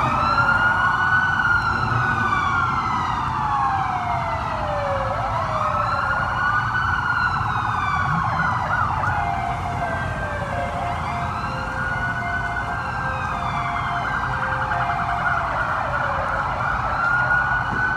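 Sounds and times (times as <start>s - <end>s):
car engines running low: 0.0s - 17.9s
police sirens wailing: 0.0s - 17.9s.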